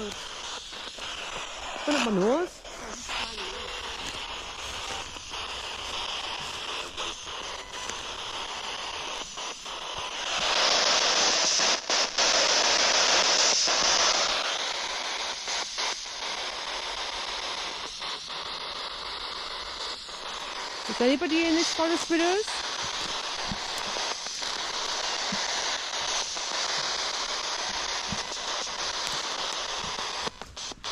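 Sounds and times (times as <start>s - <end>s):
radio static hiss: 0.0s - 30.9s.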